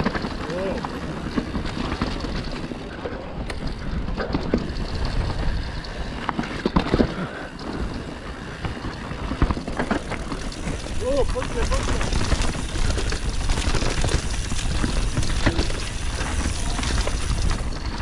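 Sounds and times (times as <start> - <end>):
bike clicks and rattles: 0.0 - 18.0
bike tyres rumbling on dirt: 0.0 - 18.0
wind buffeting microphone: 1.2 - 18.0.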